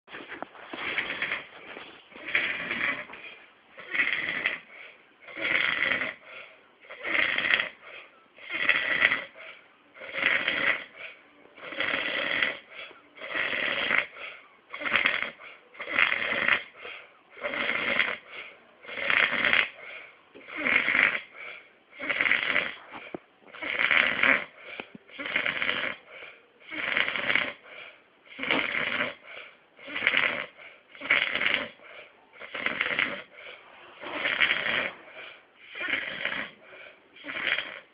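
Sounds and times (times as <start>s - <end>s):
loud rasping snoring: 0.2s - 37.9s.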